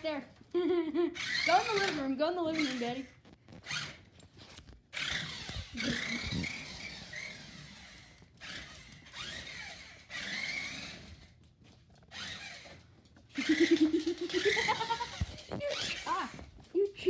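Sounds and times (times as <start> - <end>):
toy car motor whirring: 1.1 - 4.1, 4.9 - 11.4, 12.1 - 16.4.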